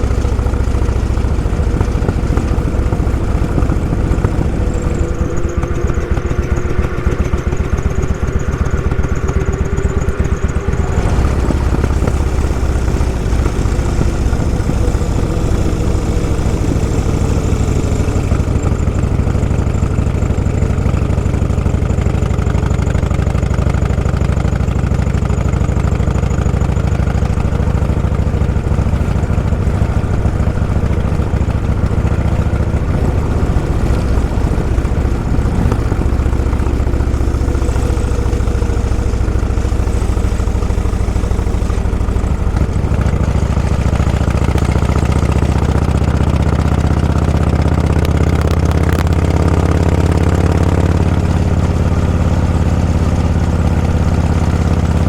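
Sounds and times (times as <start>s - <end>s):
high whine: 0.0s - 55.0s
vehicle engine droning: 0.0s - 55.0s.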